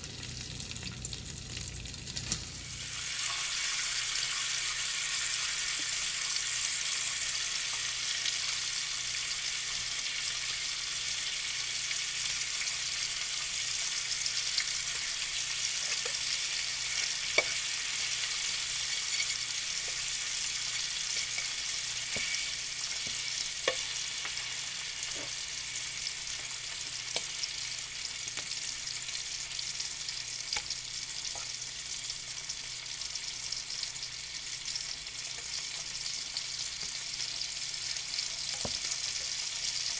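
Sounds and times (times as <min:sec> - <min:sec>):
bacon sizzling in fat: 0:00.0 - 0:39.9.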